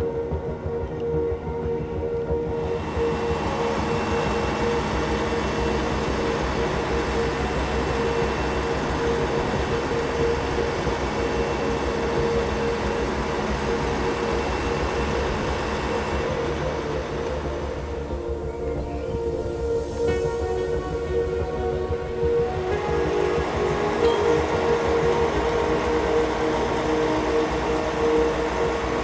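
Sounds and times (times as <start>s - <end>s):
background music: 0.0s - 29.0s.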